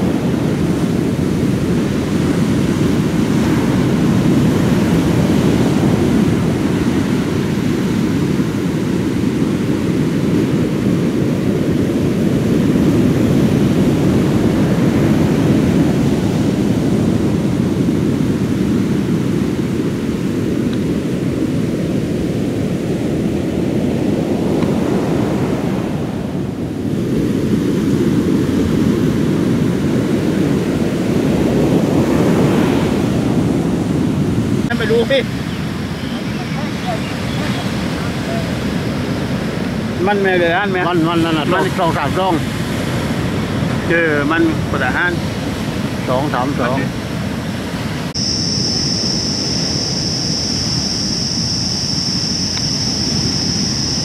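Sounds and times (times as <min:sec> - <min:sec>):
sea surf: 0:00.0 - 0:54.0
wind rumbling on microphone: 0:00.0 - 0:54.0.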